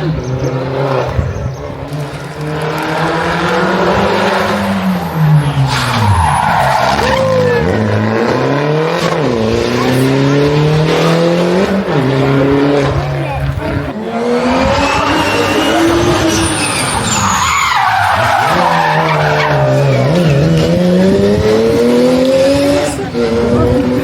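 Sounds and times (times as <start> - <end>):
rally car engine revving: 0.0 - 24.0
tyres skidding: 0.0 - 24.0.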